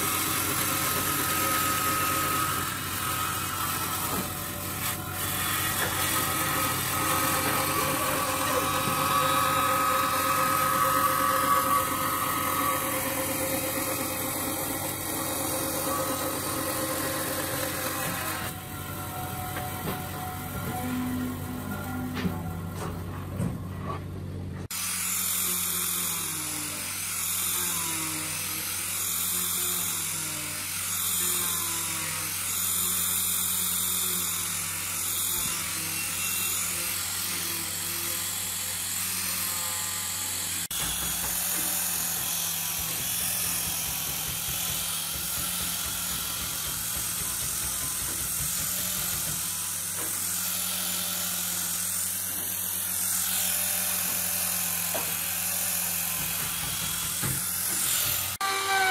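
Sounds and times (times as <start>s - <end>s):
angle grinder sanding wood: 0.0s - 23.0s, 24.6s - 58.9s.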